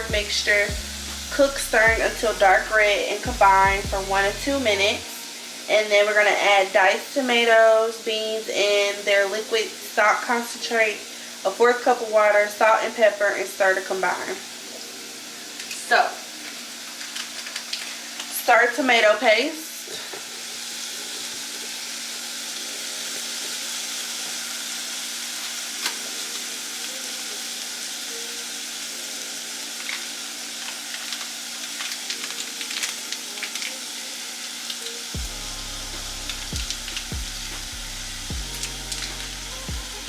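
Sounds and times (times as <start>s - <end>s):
pork sizzling in a pot: 0.0s - 40.0s.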